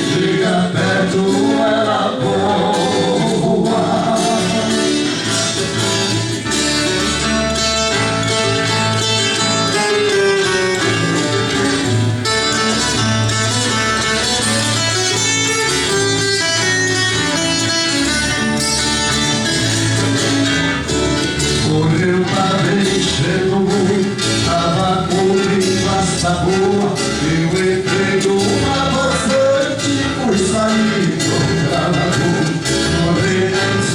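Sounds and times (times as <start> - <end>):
plucked acoustic guitars: 0.0 - 33.9
steady bass line: 0.0 - 33.9.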